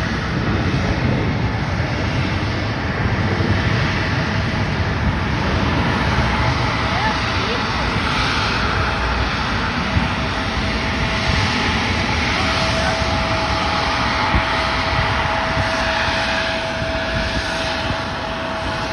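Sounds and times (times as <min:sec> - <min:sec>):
jet engines roaring: 0:00.0 - 0:18.9
thin engine whine: 0:00.0 - 0:18.9.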